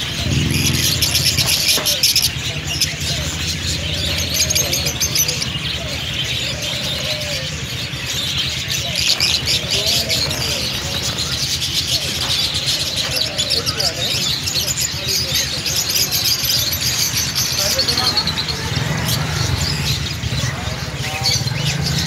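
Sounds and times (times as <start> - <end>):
small birds twittering: 0.0 - 22.0.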